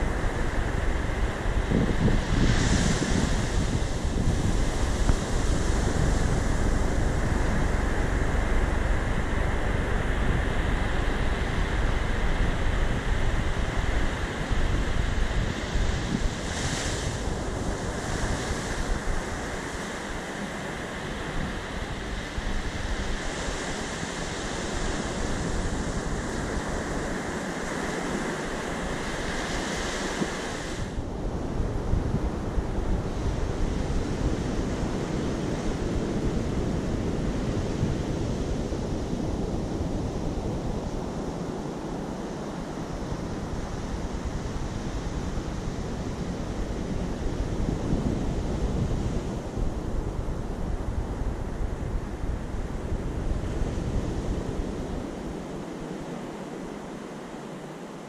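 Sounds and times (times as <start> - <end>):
wind buffeting microphone: 0.0 - 57.0
surf breaking on beach: 0.0 - 58.0.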